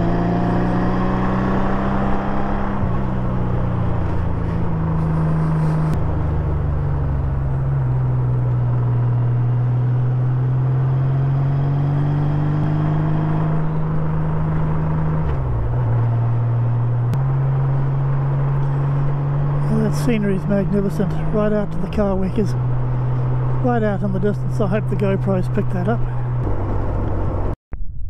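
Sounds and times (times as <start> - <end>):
motorcycle engine running: 0.0 - 27.6
wind and road noise: 0.0 - 28.0.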